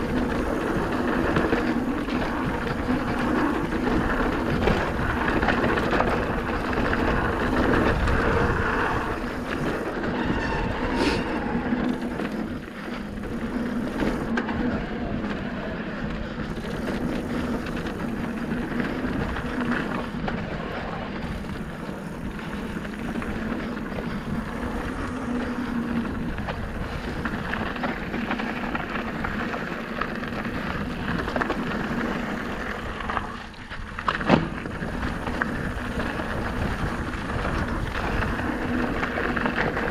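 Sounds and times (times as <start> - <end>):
bike rattling: 0.0 - 39.9.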